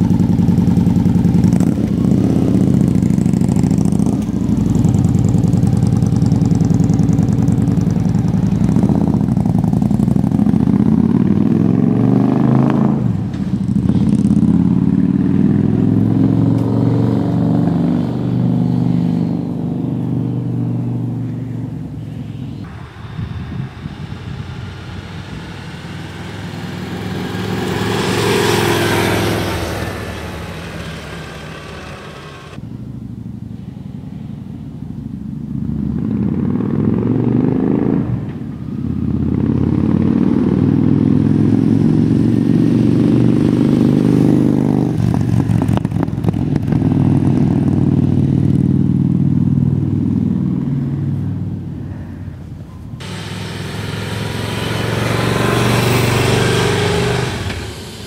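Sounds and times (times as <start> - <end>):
motorcycle engine passing: 0.0 - 33.2, 35.3 - 58.0.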